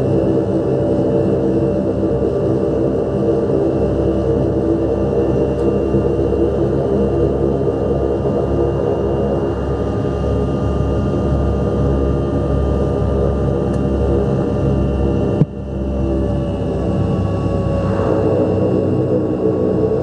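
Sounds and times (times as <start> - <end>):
high engine whine: 0.0 - 20.0
turboprop engine drone: 0.0 - 20.0.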